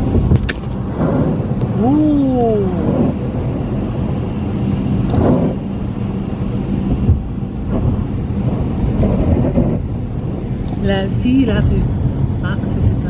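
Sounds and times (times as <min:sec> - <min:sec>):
car engine hum: 0:00.0 - 0:13.0
tyres on wet snowy road: 0:00.0 - 0:13.0.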